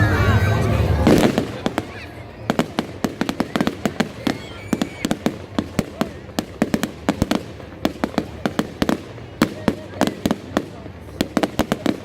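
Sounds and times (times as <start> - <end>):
fireworks popping and banging: 0.5 - 12.0.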